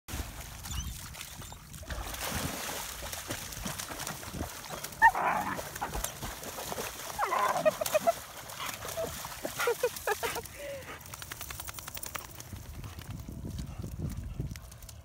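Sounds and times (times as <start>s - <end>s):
dogs splashing in water: 0.1s - 13.2s.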